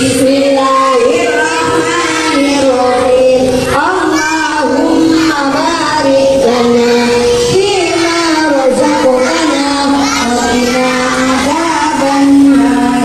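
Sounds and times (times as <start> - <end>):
backing music: 0.0 - 13.0
child singing: 0.0 - 13.0.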